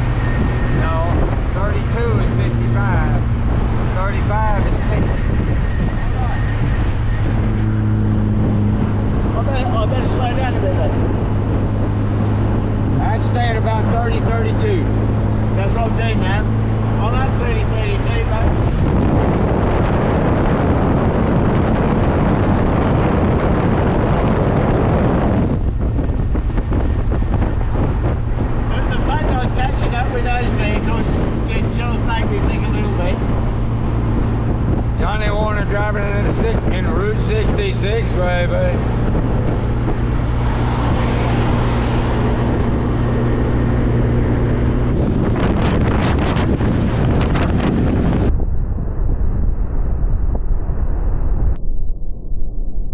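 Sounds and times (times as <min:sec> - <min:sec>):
car engine hum: 0:00.0 - 0:48.3
wind and road noise: 0:00.0 - 0:52.9
wind buffeting microphone: 0:00.0 - 0:52.9.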